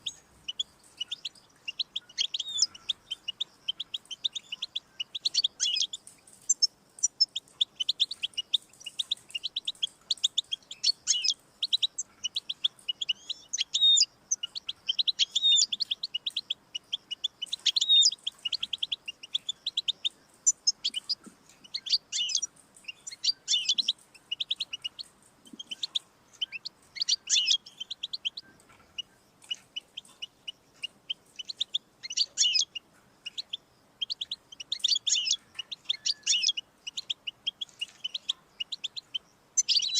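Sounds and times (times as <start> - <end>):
goldfinch twittering and trilling: 0.0 - 39.9.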